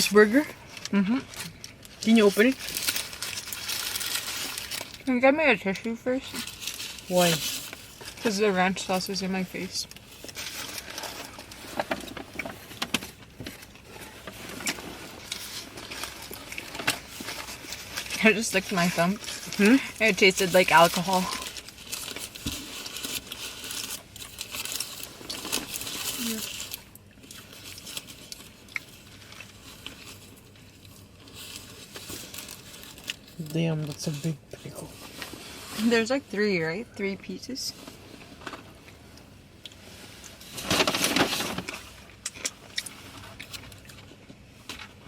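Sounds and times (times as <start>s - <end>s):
food wrapping rustling: 0.0s - 45.0s.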